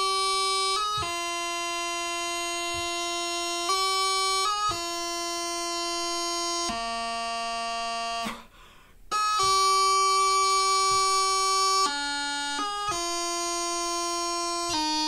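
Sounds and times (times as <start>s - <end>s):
bagpipe practice chanter tune: 0.0s - 15.0s.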